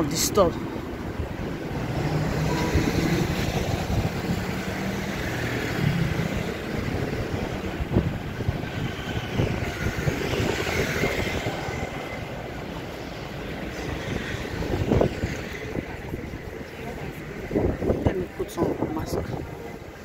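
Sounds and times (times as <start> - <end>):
bus passing: 0.0 - 20.0
cars passing: 0.0 - 20.0
steady street hum: 0.0 - 20.0
motor scooters passing: 1.3 - 18.0.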